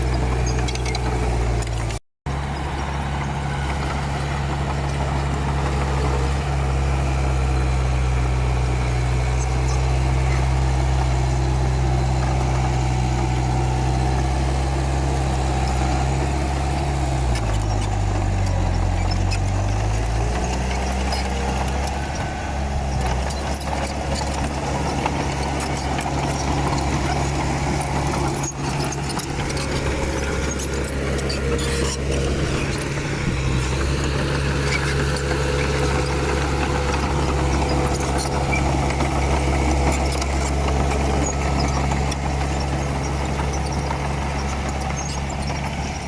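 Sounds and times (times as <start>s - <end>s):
bulldozer diesel engine running: 0.0s - 46.0s
clatter and rattle: 0.0s - 46.0s.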